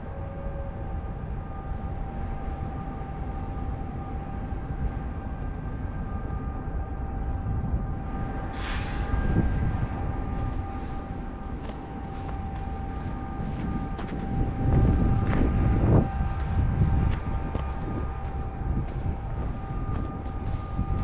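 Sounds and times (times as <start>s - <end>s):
mechanical rumble with hum: 0.0s - 21.0s.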